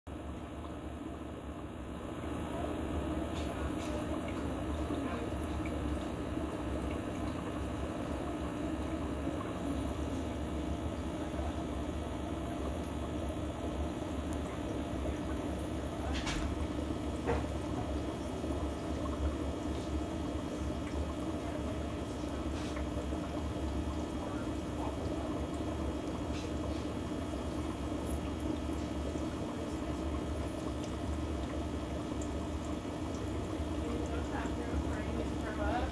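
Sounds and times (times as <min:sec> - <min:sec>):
aquarium filter bubbling and trickling: 0:00.1 - 0:35.9.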